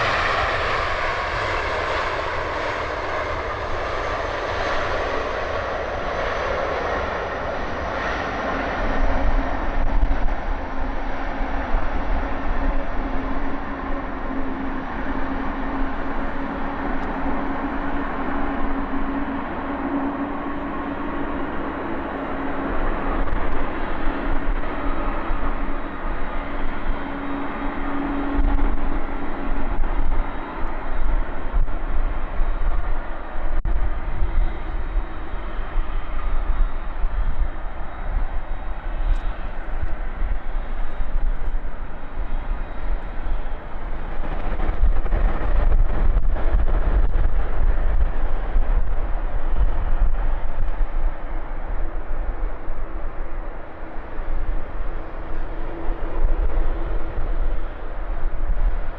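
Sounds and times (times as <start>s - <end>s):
deep rumble: 0.0s - 58.9s
jet engines rushing: 0.0s - 58.9s.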